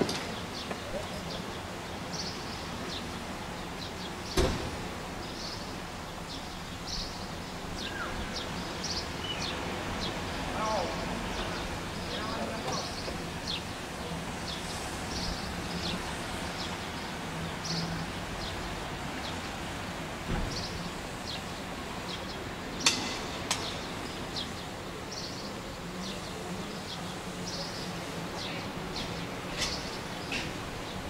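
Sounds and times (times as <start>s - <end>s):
steady background hiss: 0.0s - 31.0s
small birds chirping: 0.2s - 19.8s, 20.5s - 31.0s.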